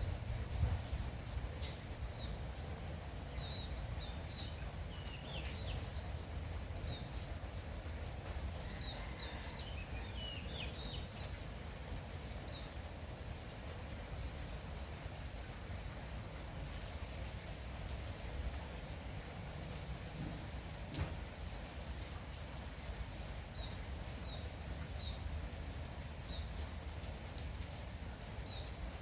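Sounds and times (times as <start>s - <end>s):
light rain falling: 0.0s - 29.0s
small birds chirping: 0.2s - 15.5s, 16.7s - 29.0s.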